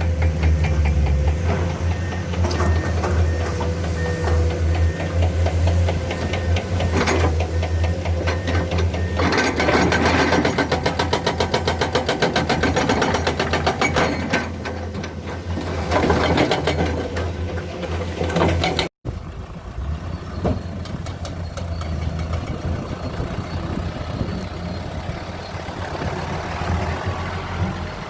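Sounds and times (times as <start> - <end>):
diesel machinery engine hum: 0.0 - 28.0.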